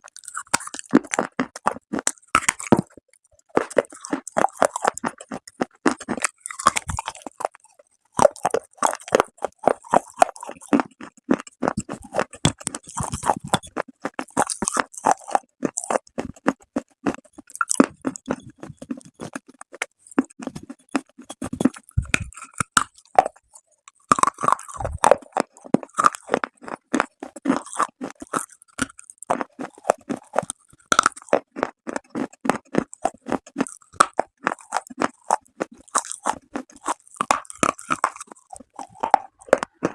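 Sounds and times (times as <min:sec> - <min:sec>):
chewing brittle clay crunches: 0:00.0 - 0:39.9.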